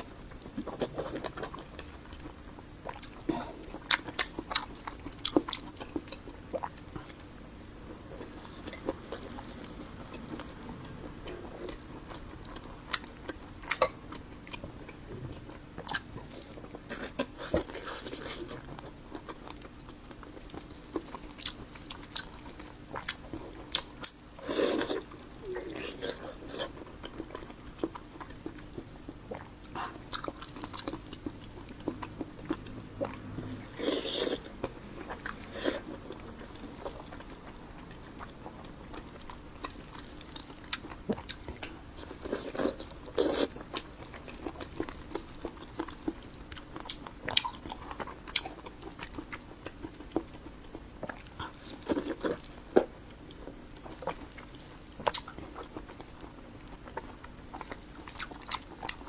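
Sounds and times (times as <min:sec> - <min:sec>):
close-miked biting and chewing: 0:00.0 - 0:07.5, 0:08.1 - 0:59.0.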